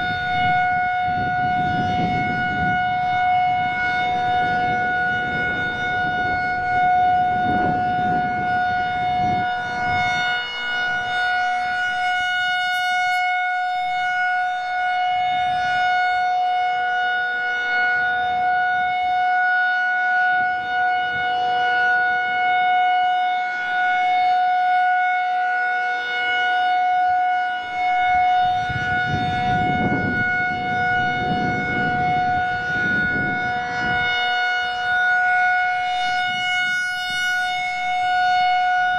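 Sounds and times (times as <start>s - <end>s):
wind rumbling on microphone: 0.0s - 19.6s, 20.2s - 24.8s, 27.0s - 38.9s
warning siren steady tone: 0.0s - 38.9s.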